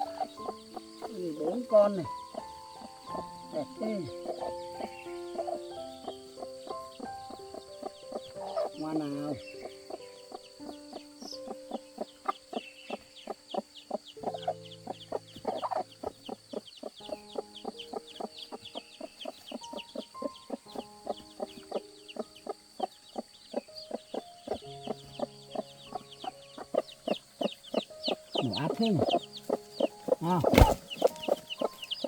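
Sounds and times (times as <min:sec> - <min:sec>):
chicks peeping: 0:00.0 - 0:32.0
hen clucking: 0:00.0 - 0:32.0.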